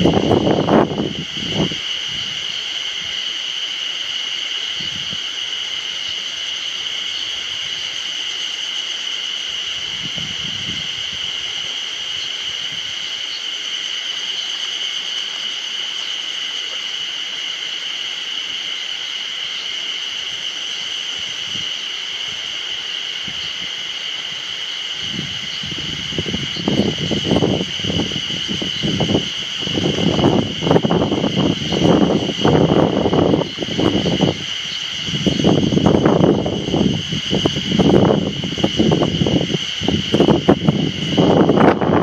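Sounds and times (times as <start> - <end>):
cicadas buzzing: 0.0 - 42.0.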